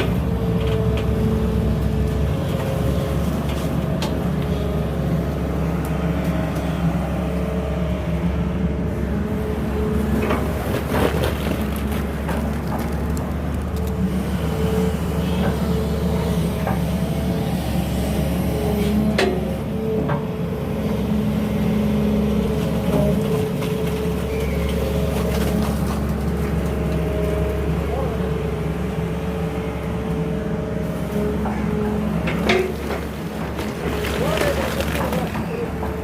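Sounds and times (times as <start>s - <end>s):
excavator diesel engine: 0.0s - 36.0s.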